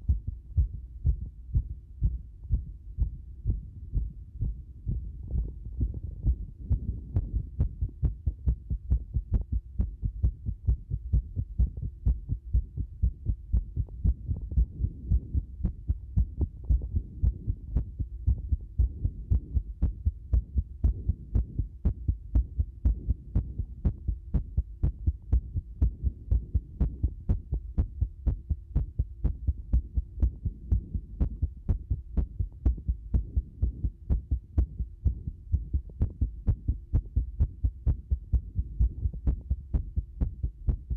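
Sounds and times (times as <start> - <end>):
faint steady hum: 0.0 - 40.9
irregular heartbeat thumps: 0.0 - 40.9.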